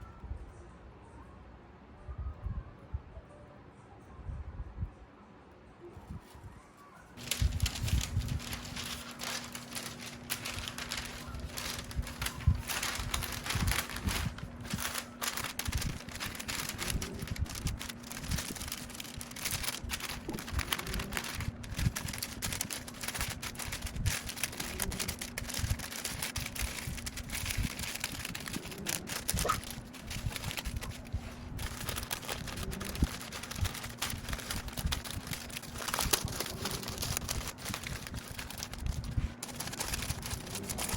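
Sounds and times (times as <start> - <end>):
crinkling and rustling: 7.2 - 40.9
steady low hum: 7.2 - 40.9.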